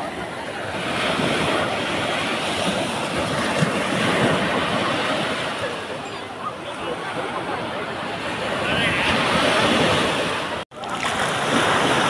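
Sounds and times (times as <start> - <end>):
waves washing up a beach: 0.0 - 12.0.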